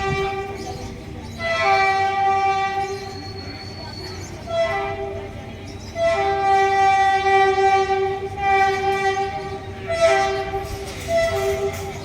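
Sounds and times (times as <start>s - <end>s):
train horn blasts: 0.0s - 3.4s, 4.4s - 12.0s.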